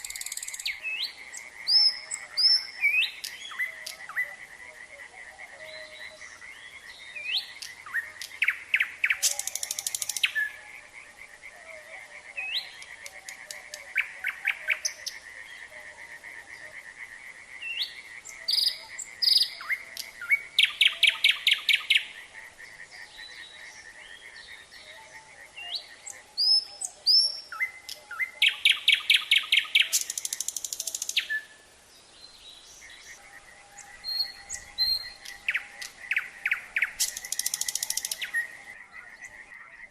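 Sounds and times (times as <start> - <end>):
frog chorus: 0.0 - 31.9, 32.7 - 39.9
nightingale singing: 0.0 - 39.9.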